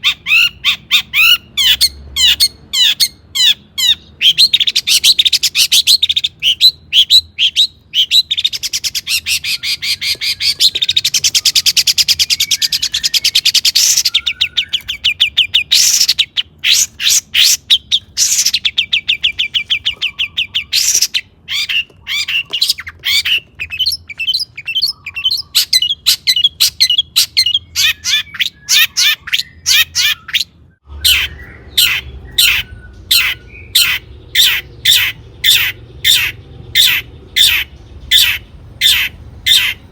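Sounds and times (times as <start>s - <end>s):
background hum: 0.0s - 39.9s
shrike singing chattering trills: 0.0s - 39.9s.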